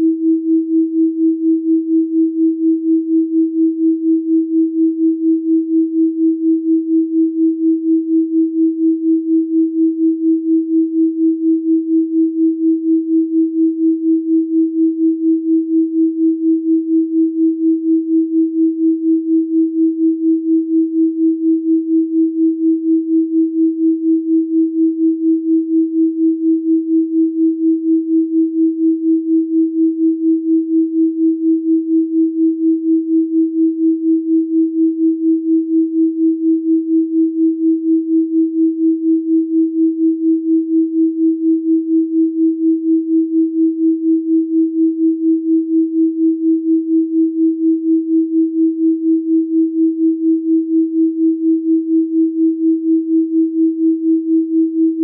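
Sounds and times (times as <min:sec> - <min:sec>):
pulsing sine tone: 0:00.0 - 0:55.0.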